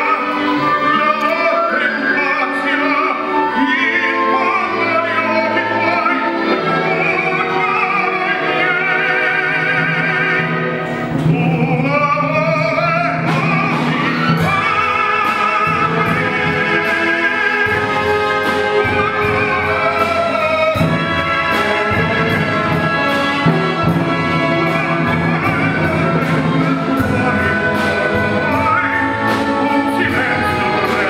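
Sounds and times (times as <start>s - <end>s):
man singing opera with vibrato: 0.0s - 31.0s
symphony orchestra playing: 0.0s - 31.0s.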